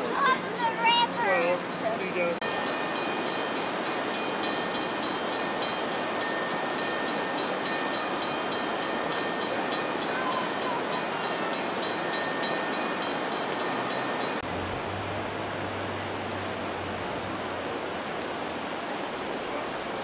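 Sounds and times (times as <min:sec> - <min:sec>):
floodwater rushing: 0:01.6 - 0:20.0.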